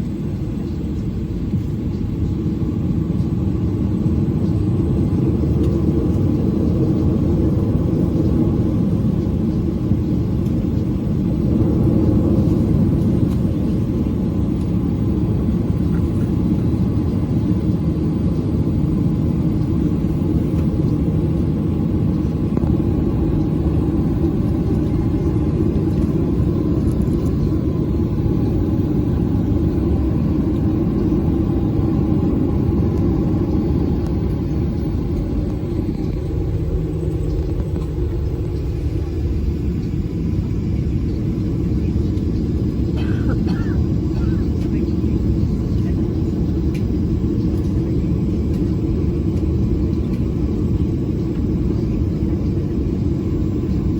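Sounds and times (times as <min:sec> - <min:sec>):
airplane cabin engine rumble: 0:00.0 - 0:53.9.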